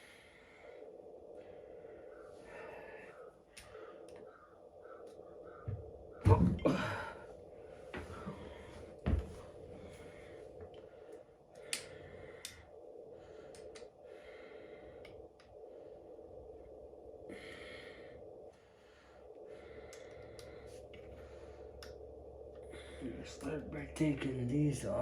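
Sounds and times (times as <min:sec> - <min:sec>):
person breathing near microphone: 0:00.0 - 0:23.5
steady low hum: 0:00.0 - 0:25.0.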